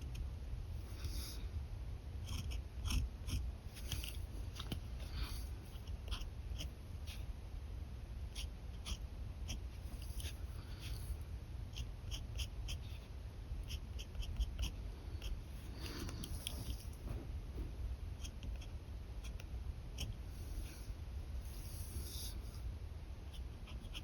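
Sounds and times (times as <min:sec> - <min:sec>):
steady low hum: 0:00.0 - 0:24.0
pen scratching on paper: 0:00.9 - 0:01.4, 0:02.2 - 0:07.3, 0:08.3 - 0:17.1, 0:18.2 - 0:22.6, 0:23.3 - 0:24.0.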